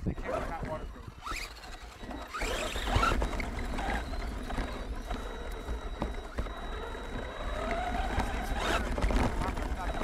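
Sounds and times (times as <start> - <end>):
faint steady high tone: 0.0 - 10.0.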